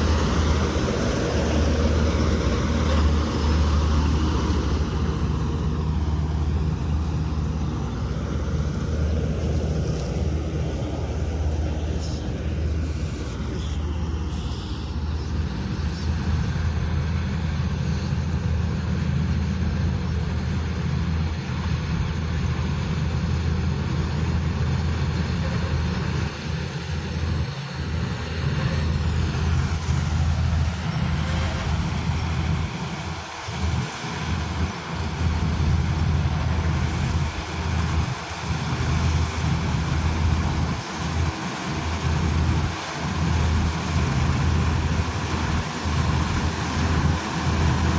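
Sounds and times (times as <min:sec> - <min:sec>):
combine harvester engine drone: 0:00.0 - 0:47.9
machinery rattle and hiss: 0:00.0 - 0:47.9.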